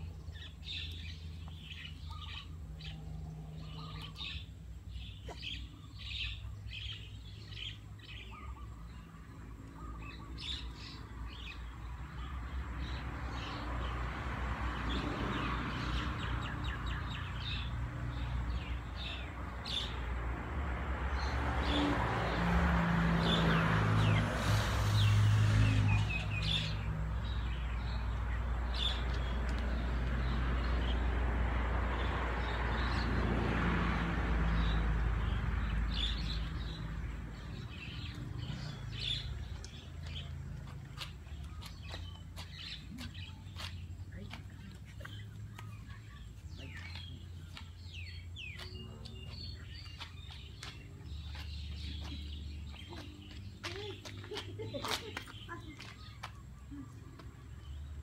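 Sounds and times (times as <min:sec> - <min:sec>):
small birds chirping: 0:00.0 - 0:14.1, 0:14.7 - 0:20.4, 0:23.0 - 0:58.0.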